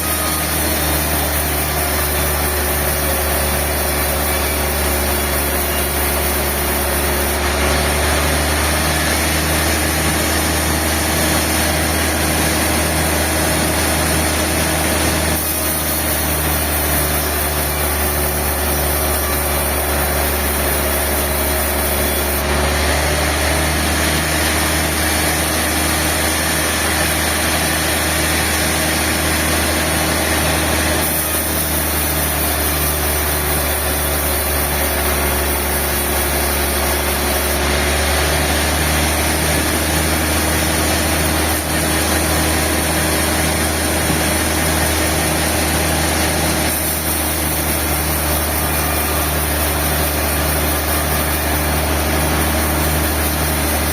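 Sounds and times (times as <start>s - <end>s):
sawmill machinery droning: 0.0s - 53.9s.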